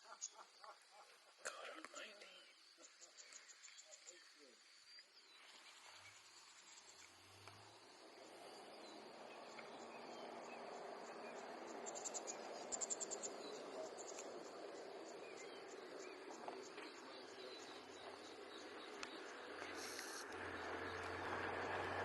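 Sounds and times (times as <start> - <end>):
faint outdoor background hiss: 0.0 - 22.0
insects chirping in clicking trills: 0.0 - 22.0.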